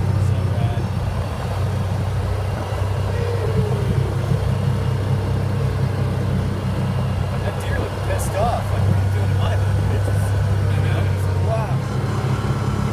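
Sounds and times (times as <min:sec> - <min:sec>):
car engine and tyres rumbling: 0:00.0 - 0:12.9.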